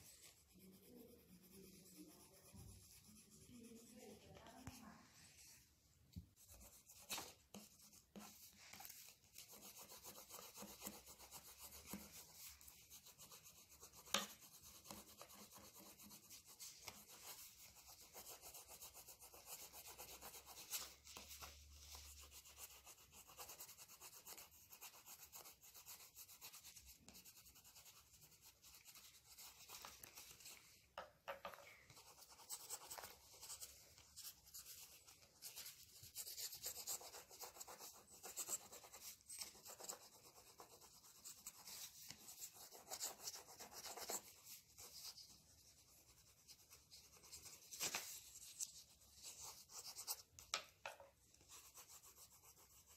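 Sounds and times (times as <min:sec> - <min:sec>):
crayon rubbing on paper: 0:00.0 - 0:05.6, 0:06.4 - 0:30.8, 0:31.8 - 0:50.3, 0:51.4 - 0:52.9.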